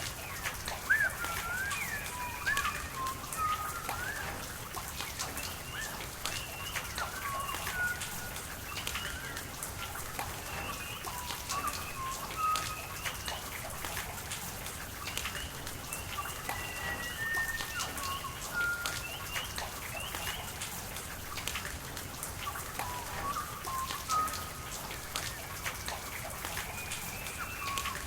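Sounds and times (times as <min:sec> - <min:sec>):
birds whistling: 0:00.0 - 0:14.2, 0:15.3 - 0:20.6, 0:22.8 - 0:28.0
rain drops pattering: 0:00.0 - 0:28.0
running water: 0:00.0 - 0:28.0.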